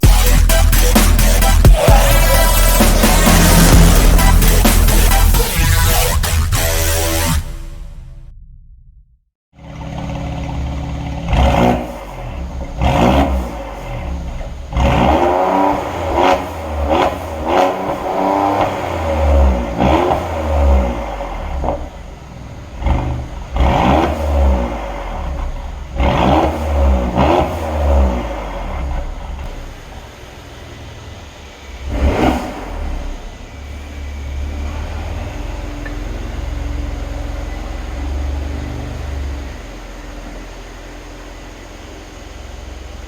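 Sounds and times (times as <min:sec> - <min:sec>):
car engine revving: 0:00.0 - 0:09.0, 0:09.6 - 0:43.0.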